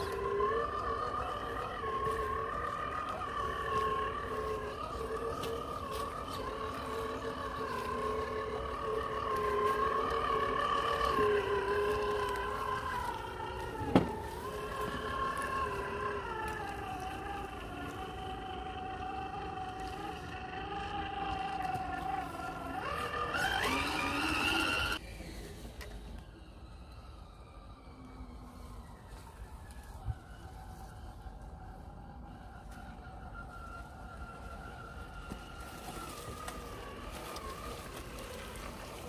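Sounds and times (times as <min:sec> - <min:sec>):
toy car electric motor whining: 0:00.0 - 0:39.0.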